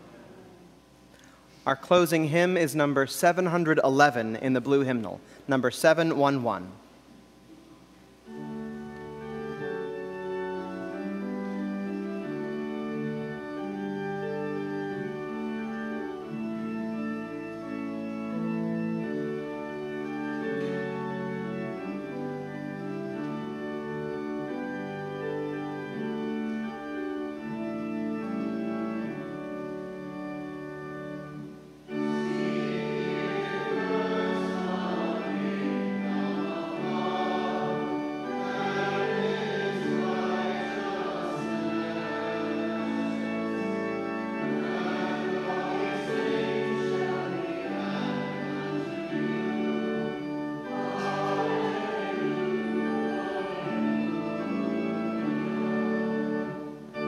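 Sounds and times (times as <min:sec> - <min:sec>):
church organ chords: 0:00.0 - 0:57.0
congregation singing a hymn: 0:08.2 - 0:57.0.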